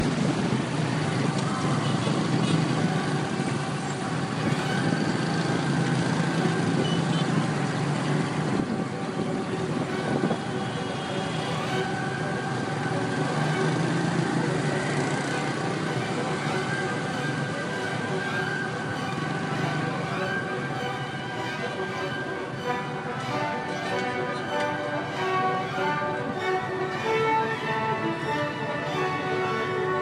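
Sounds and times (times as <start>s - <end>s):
dense road traffic: 0.0s - 30.0s.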